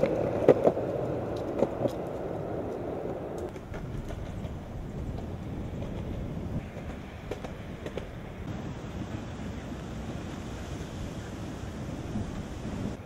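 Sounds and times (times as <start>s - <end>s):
skateboard rolling over concrete: 0.0s - 13.0s.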